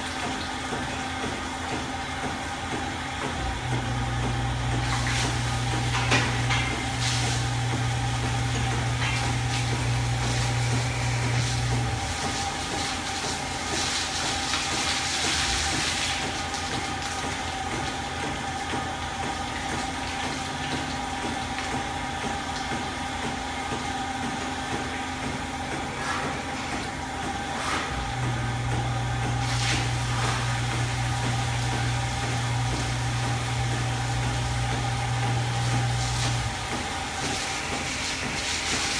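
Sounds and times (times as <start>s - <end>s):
milking machinery whine: 0.0s - 38.9s.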